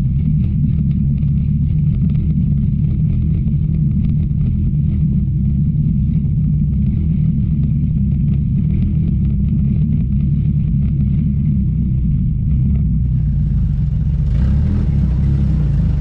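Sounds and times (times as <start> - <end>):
race car engine running: 0.2 - 16.0.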